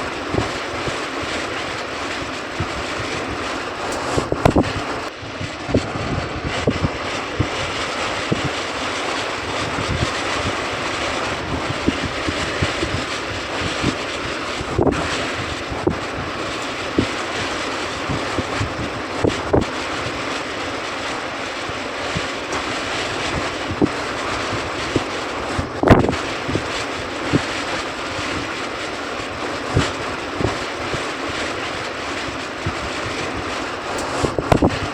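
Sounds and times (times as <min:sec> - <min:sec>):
air conditioner blowing: 0:00.0 - 0:34.9
wind buffeting microphone: 0:00.0 - 0:34.9.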